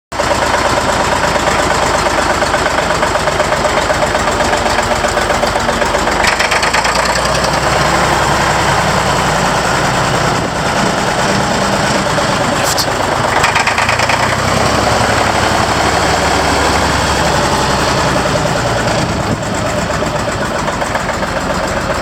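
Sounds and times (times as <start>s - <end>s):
tractor diesel engine running: 0.1s - 22.0s.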